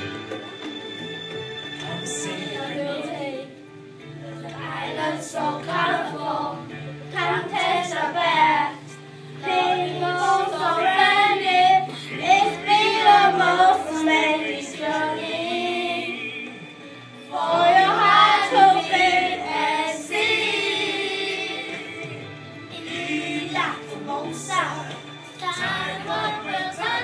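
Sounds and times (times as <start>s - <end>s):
karaoke backing track: 0.0s - 27.0s.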